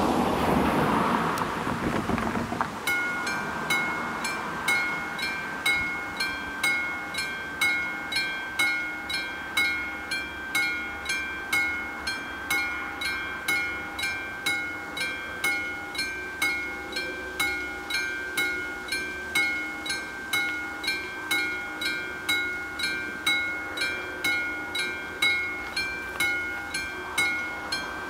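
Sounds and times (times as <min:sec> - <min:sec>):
level crossing bell ringing: 0:02.9 - 0:28.0.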